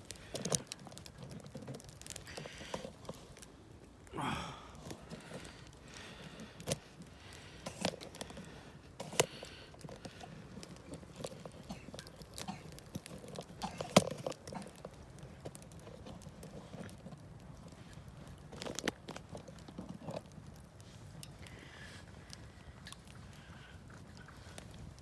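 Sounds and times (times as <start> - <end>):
campfire crackling: 0.0 - 25.0
sharp snaps of fire: 0.0 - 25.0.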